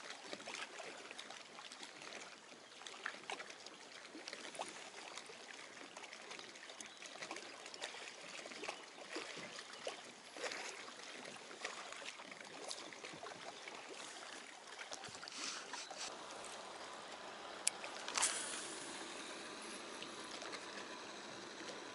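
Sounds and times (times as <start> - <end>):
small waves lapping: 0.0 - 21.9.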